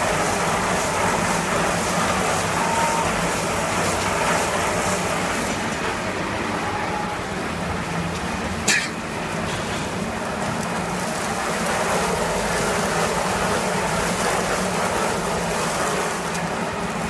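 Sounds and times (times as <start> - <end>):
frying machine hissing: 0.0 - 17.0.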